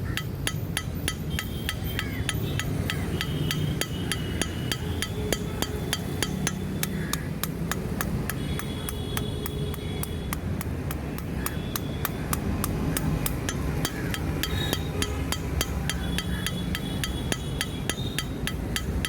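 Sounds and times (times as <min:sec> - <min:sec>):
hammer striking steel on anvil: 0:00.0 - 0:08.7, 0:12.0 - 0:19.0.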